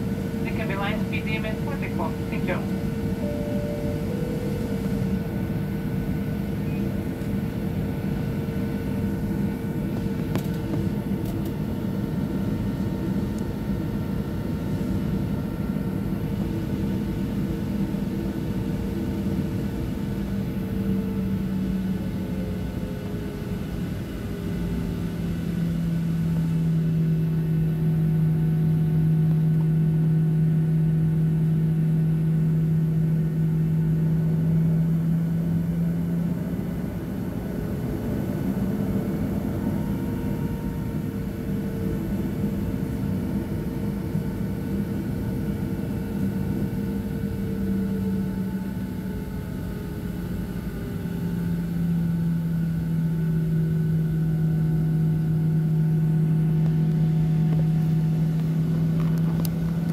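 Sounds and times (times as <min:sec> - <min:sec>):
airplane cabin drone: 0:00.0 - 0:59.9.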